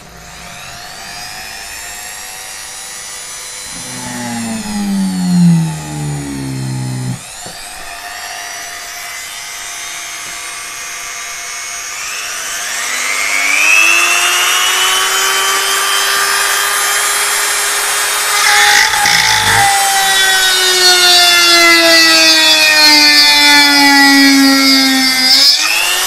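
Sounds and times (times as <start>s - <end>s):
die grinder whining: 0.0s - 22.7s.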